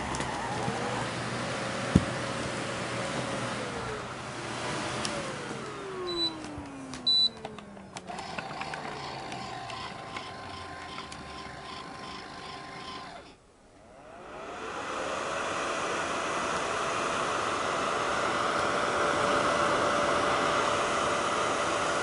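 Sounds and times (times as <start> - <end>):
vacuum cleaner motor whining: 0.0 - 22.0.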